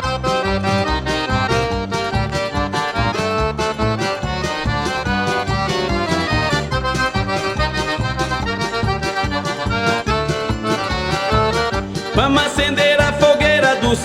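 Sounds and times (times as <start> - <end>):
accordion melody: 0.0 - 14.0
bass line: 0.0 - 14.0
percussion beat: 1.6 - 14.0.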